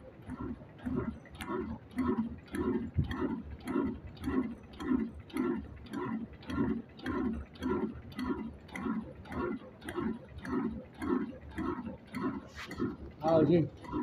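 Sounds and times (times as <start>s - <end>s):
slow diesel engine chuffing: 0.0s - 14.0s.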